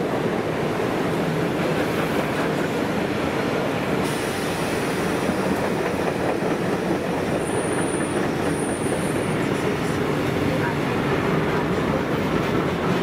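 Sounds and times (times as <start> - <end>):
freight wagons rumbling on rails: 0.2 - 13.0.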